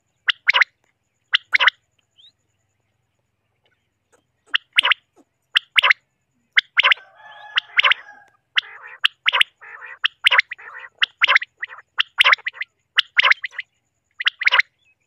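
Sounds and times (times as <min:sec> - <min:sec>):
rasping buzzy bird calls: 0:00.0 - 0:02.3, 0:04.1 - 0:14.9
quail calling sharp notes: 0:00.2 - 0:02.3, 0:04.1 - 0:14.8.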